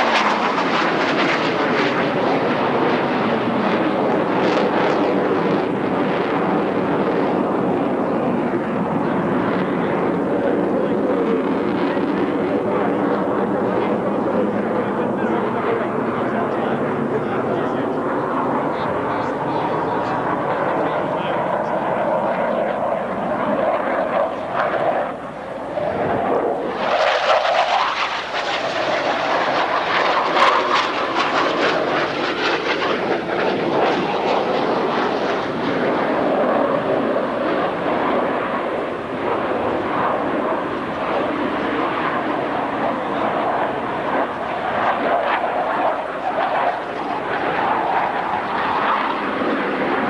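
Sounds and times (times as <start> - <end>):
jet aircraft roaring overhead: 0.0 - 50.0.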